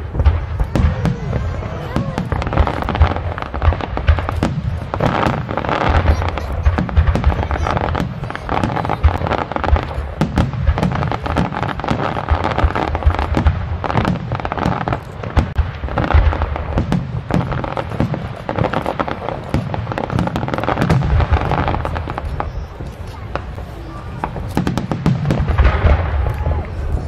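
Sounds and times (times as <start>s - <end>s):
fireworks booming and popping: 0.0s - 27.0s.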